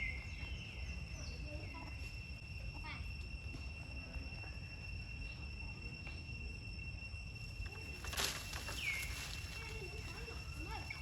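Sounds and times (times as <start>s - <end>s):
high-pitched insect drone: 0.0s - 11.0s
low outdoor rumble: 0.0s - 11.0s.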